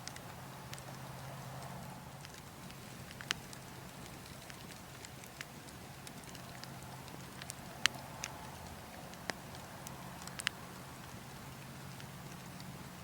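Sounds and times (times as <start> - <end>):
burning logs crackling: 0.0 - 13.0
low rush of wind: 0.0 - 13.0.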